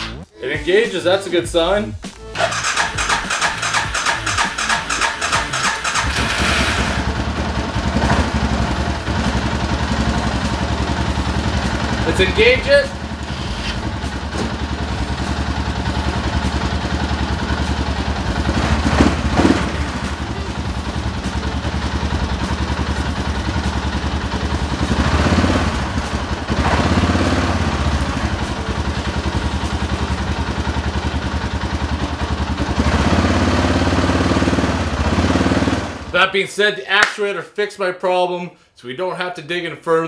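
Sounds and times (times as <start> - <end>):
atv engine idling: 2.4 - 36.2.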